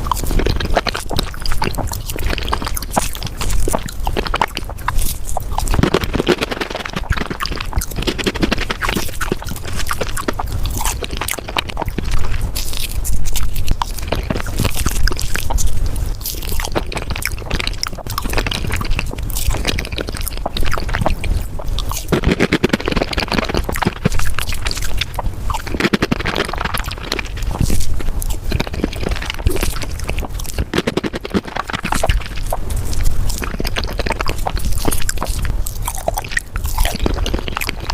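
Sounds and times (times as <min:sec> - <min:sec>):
fast chewing and mouth clicks: 0:00.0 - 0:37.9.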